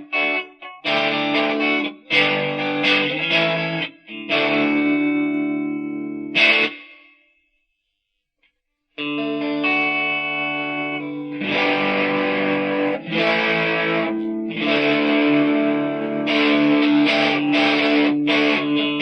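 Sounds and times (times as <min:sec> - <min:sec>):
overdriven electric guitar chords: 0:00.0 - 0:07.2, 0:09.0 - 0:19.0.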